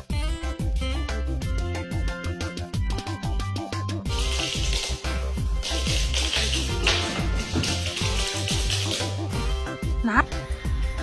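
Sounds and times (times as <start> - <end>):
music with repeating bass line: 0.0 - 11.0.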